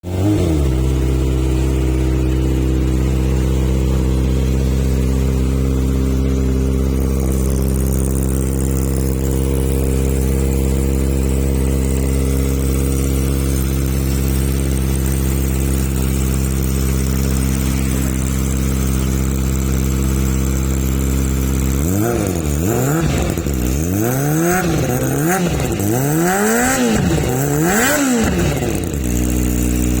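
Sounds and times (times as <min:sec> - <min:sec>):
motorcycle engine idling and revving: 0:00.0 - 0:30.0.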